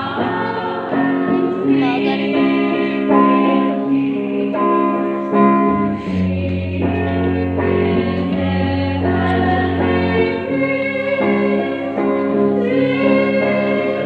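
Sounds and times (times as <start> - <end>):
church choir singing a hymn: 0.0 - 14.0
instrumental accompaniment: 0.0 - 14.0.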